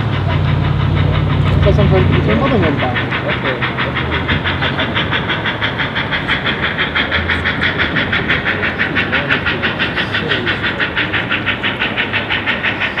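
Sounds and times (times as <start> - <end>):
low rumble: 0.0 - 13.0
steam locomotive chuffing: 0.0 - 13.0.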